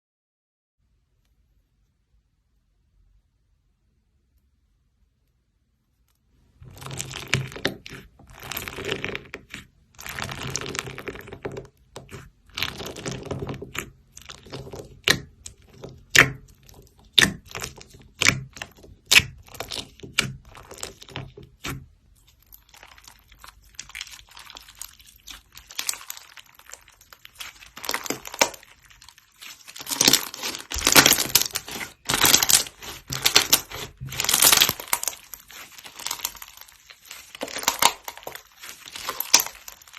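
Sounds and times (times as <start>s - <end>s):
slime squishing: 6.4s - 39.9s.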